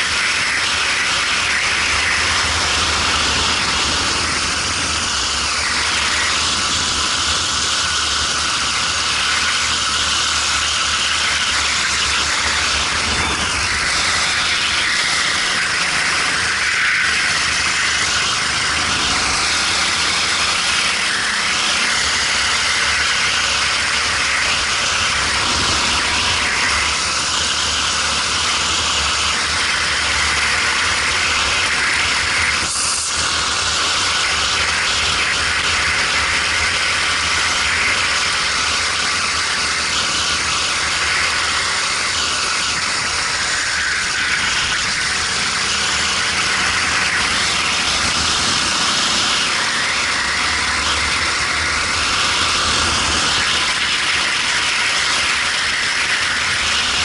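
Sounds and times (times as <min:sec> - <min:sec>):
kart engine running: 0:00.0 - 0:57.0
loud rushing noise: 0:00.0 - 0:57.0.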